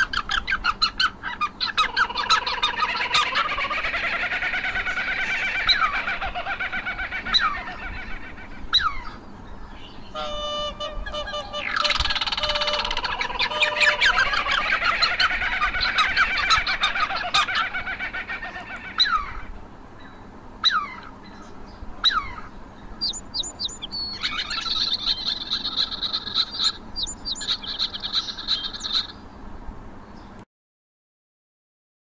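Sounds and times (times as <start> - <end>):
birds chirping and twittering: 0.0 - 30.4.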